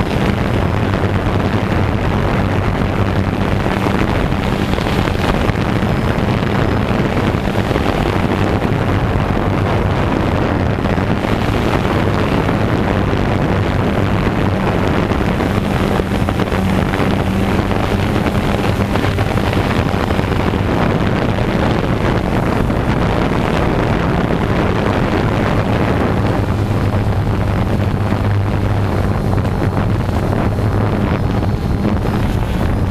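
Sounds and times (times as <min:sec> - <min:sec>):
drone motors humming: 0:00.0 - 0:32.9
propeller wash on microphone: 0:00.0 - 0:32.9.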